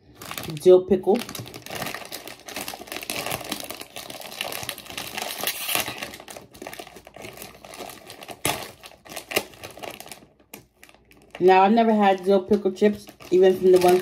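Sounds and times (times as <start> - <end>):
foil chip bag crinkling: 0.0 - 14.0.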